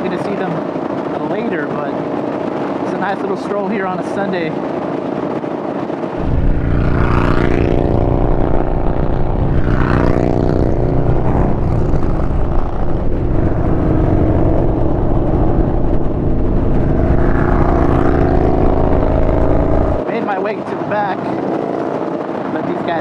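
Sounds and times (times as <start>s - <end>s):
motorcycle engine cruising: 0.0s - 23.0s
wind rush: 0.0s - 23.0s.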